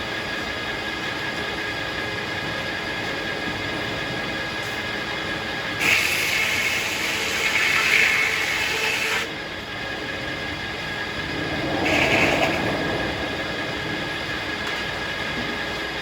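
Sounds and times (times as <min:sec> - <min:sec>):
circular sawmill running: 0:00.0 - 0:16.0.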